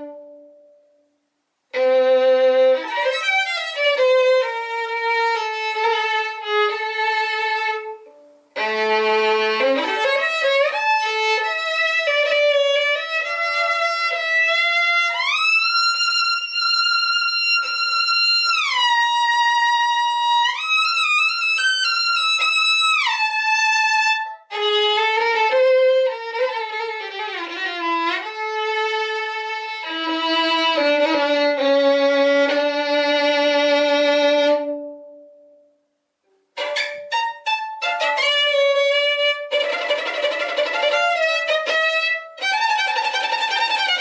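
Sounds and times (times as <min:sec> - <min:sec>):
solo violin playing: 0:00.0 - 0:01.1, 0:01.7 - 0:44.0.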